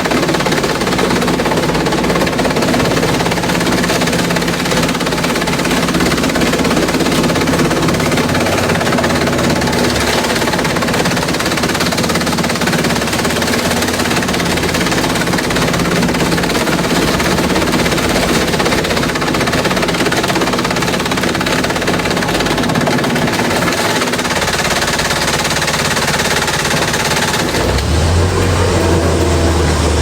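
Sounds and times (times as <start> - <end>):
motor humming: 0.0 - 30.0
shredder clattering: 0.0 - 30.0.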